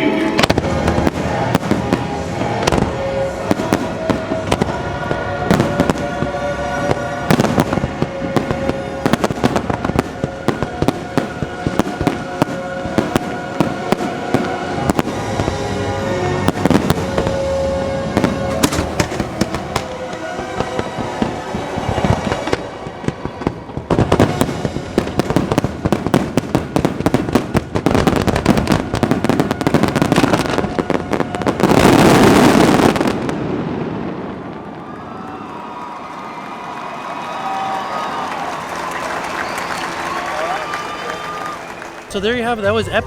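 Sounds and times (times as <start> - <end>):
fireworks show music: 0.0 - 35.7, 36.3 - 43.0
fireworks bangs and crackles: 0.0 - 43.0.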